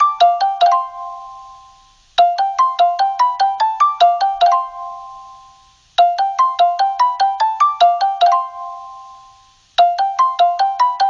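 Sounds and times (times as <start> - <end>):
marimba-like ringback tone: 0.0 - 11.0.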